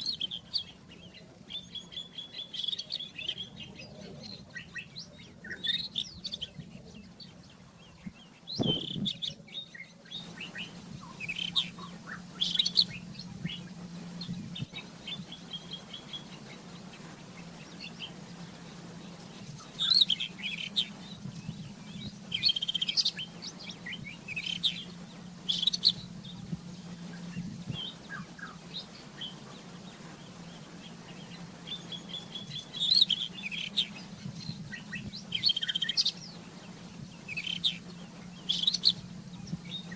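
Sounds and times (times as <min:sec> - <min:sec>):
bird singing high varied notes: 0:00.0 - 0:39.9
steady low hum: 0:00.0 - 0:39.9.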